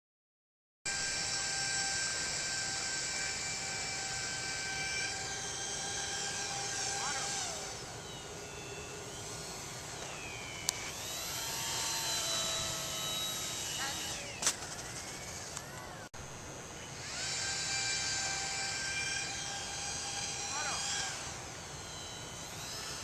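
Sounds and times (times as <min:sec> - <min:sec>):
model airplane motor whining: 0:00.9 - 0:23.0.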